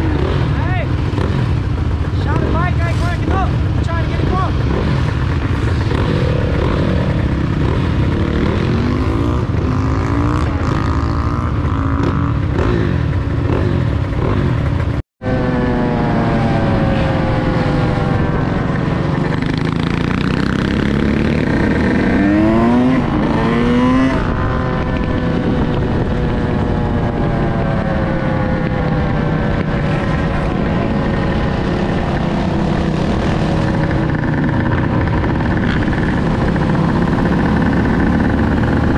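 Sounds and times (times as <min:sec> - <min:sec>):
low wind rumble: 0:00.0 - 0:38.9
quad and dirt bike engines revving: 0:00.0 - 0:38.9.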